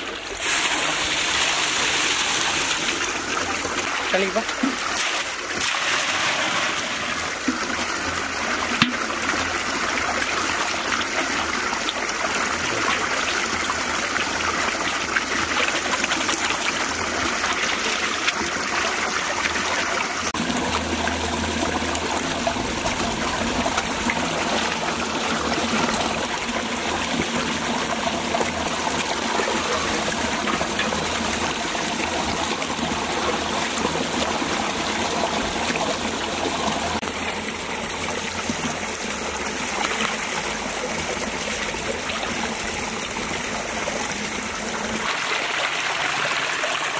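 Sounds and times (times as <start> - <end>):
water pouring into metal pot: 0.0 - 46.9.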